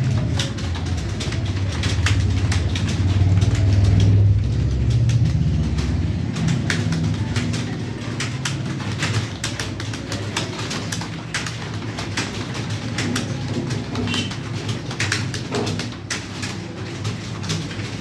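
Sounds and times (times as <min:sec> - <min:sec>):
keyboard keys clicking: 0:00.0 - 0:18.0.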